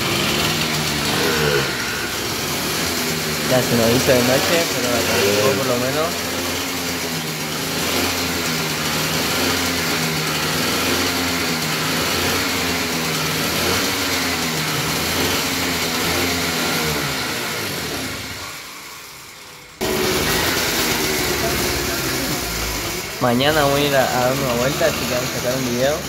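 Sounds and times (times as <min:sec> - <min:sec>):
small engine revving: 0:00.0 - 0:26.0.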